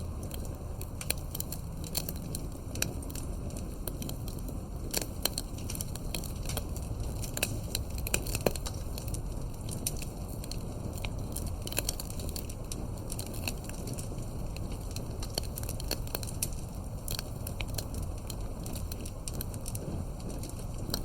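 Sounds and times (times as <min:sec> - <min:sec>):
campfire pops and snaps: 0:00.0 - 0:21.0
low rumble of flames: 0:00.0 - 0:21.0.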